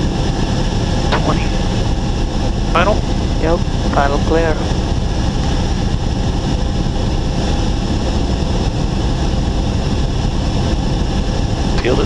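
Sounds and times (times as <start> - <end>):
idling propeller engine: 0.0 - 12.0.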